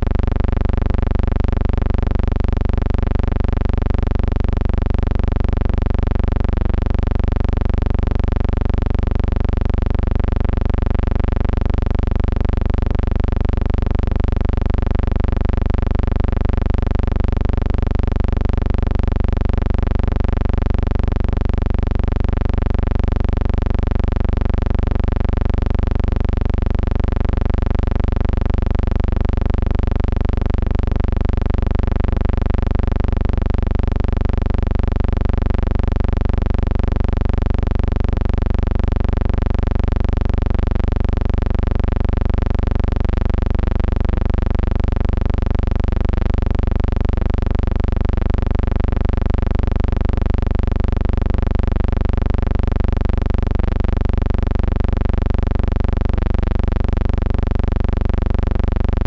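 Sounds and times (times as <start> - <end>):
loud steady pulsing hum: 0.0 - 59.0.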